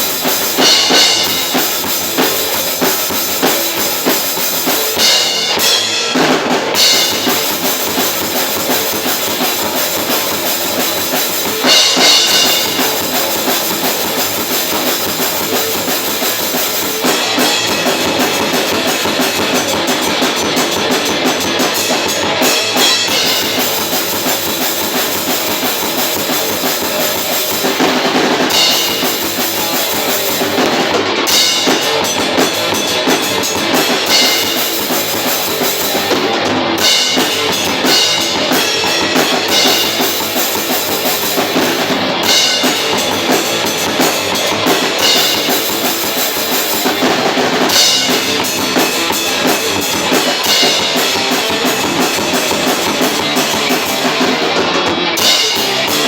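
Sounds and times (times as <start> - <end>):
metal band playing: 0.0 - 56.0.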